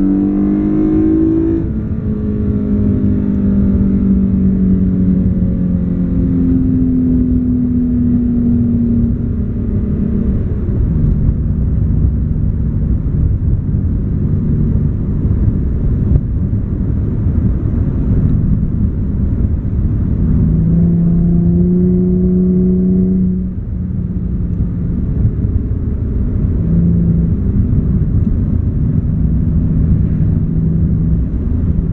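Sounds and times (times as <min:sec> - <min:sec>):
exhaust drone inside car: 0:00.0 - 0:31.9
road rumble: 0:00.0 - 0:31.9.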